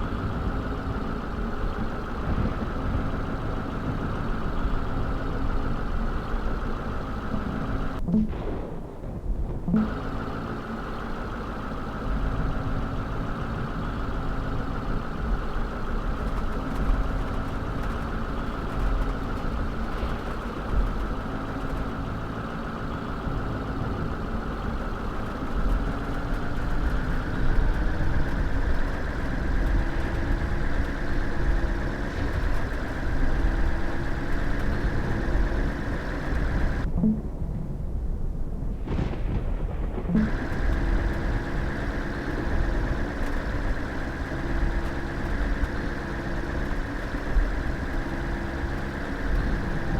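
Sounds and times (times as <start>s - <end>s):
vehicle engine rumbling: 0.0s - 49.9s.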